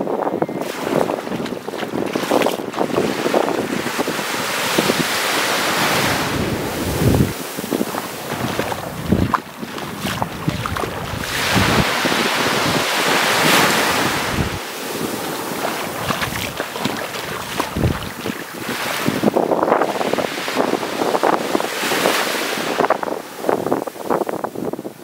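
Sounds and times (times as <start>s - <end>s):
wind buffeting microphone: 0.0s - 25.0s
small waves breaking on beach: 0.6s - 24.7s.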